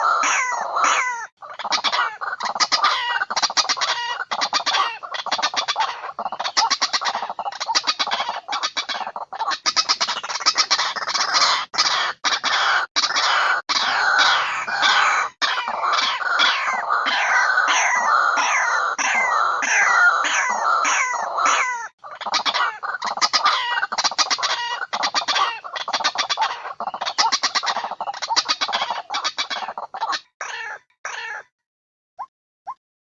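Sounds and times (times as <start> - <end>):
waterhen calling: 0.0 - 31.5.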